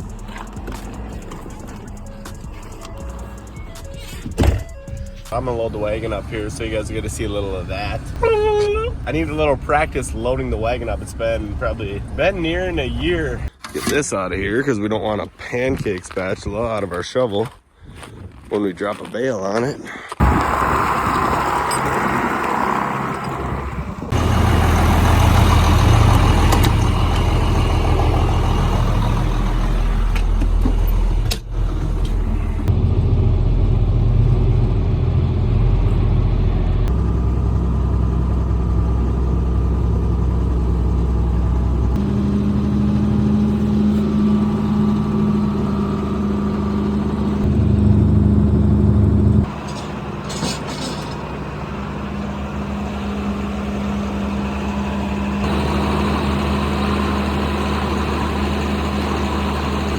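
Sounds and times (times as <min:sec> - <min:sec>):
tractor diesel engine running: 0:00.0 - 0:13.5, 0:20.2 - 0:59.9.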